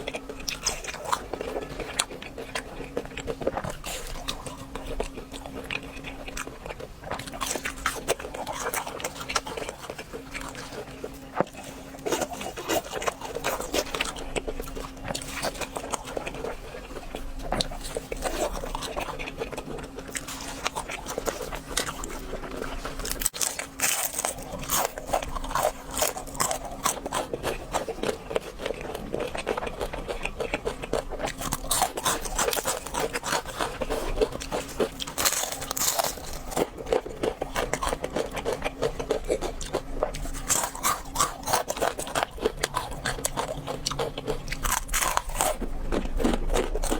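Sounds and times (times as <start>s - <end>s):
crispy fried food crunching: 0.0s - 46.9s.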